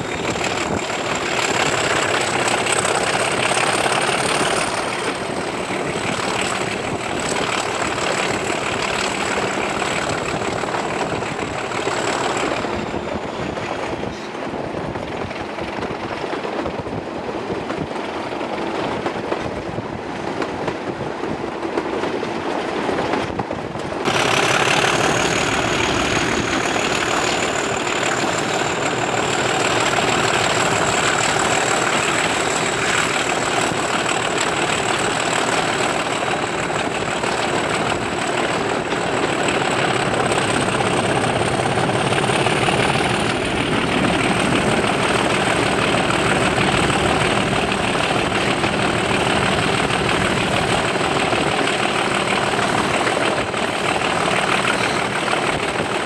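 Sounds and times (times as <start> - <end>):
diesel locomotive engine working: 0.0 - 56.0.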